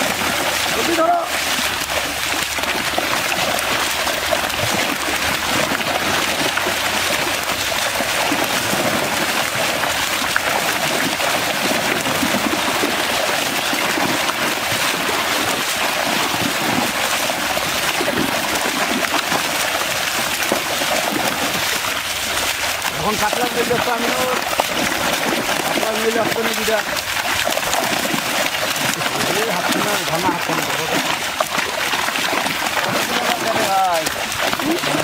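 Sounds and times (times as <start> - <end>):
pond water churning and splashing: 0.0 - 35.0.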